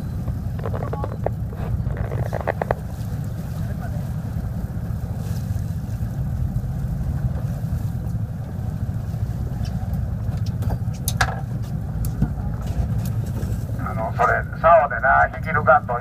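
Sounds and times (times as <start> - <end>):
boat engine rumbling: 0.0 - 16.0
sea noise: 0.0 - 16.0
wind: 0.0 - 16.0.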